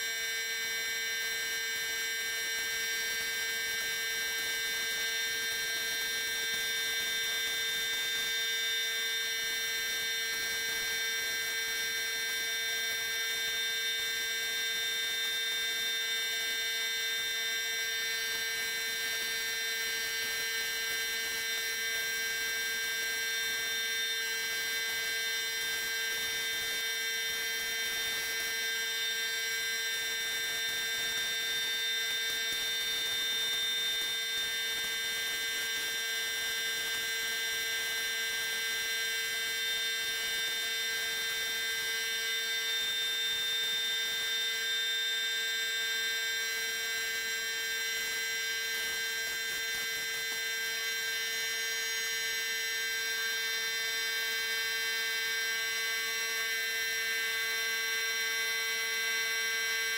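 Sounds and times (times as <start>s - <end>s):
machine whine: 0.0s - 59.9s.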